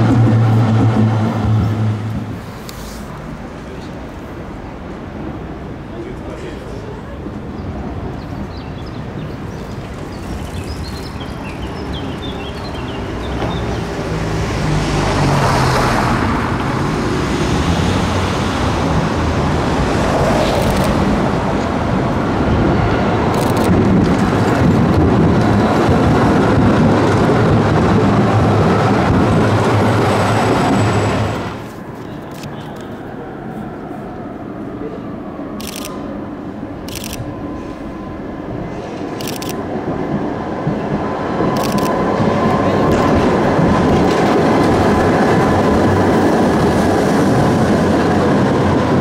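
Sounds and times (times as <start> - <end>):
tram running on street tracks: 0.0 - 49.0.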